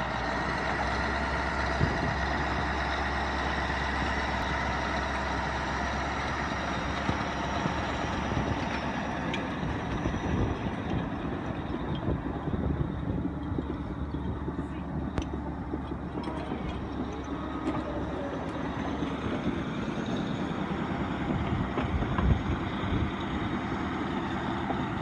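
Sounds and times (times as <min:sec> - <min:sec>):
bulldozer diesel engine rumbling: 0:00.0 - 0:25.0.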